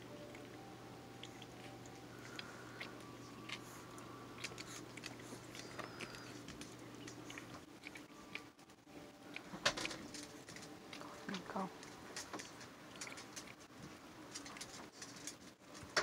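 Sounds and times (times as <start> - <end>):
puppies nursing wet smacking: 1.2 - 16.0.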